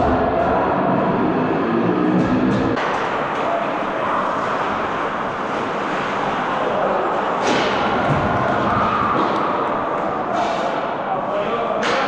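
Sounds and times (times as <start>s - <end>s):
distant voices echoing: 0.0s - 12.0s.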